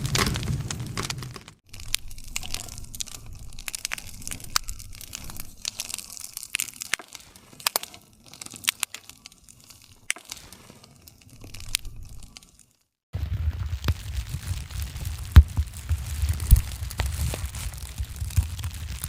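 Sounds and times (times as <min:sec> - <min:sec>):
campfire pops and snaps: 0:00.0 - 0:19.0
low rumble of flames: 0:00.0 - 0:19.0.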